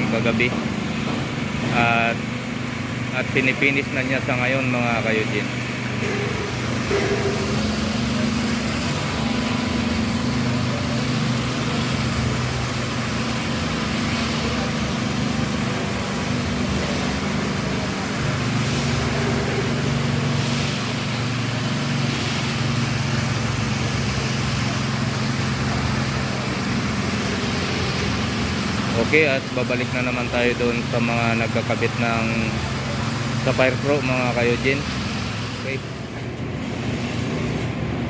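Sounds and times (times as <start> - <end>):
power trowel engine running: 0.0 - 38.0.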